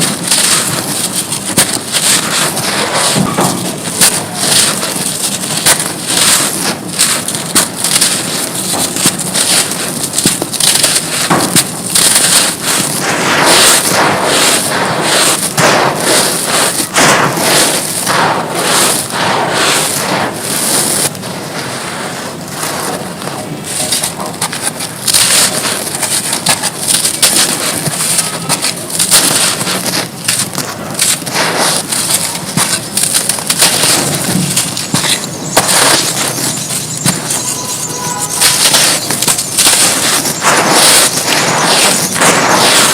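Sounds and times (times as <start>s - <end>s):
dry material crunching: 0.0s - 21.3s, 22.4s - 42.9s.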